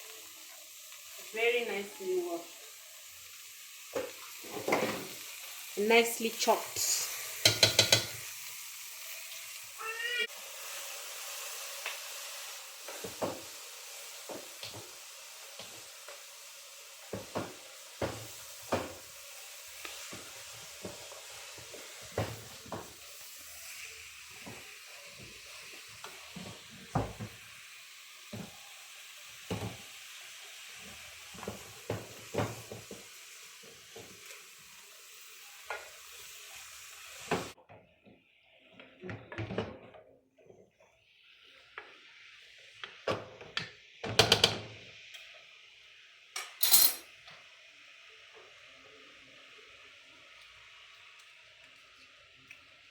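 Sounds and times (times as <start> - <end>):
greens sizzling in oil: 0.0 - 37.6, 40.6 - 52.9.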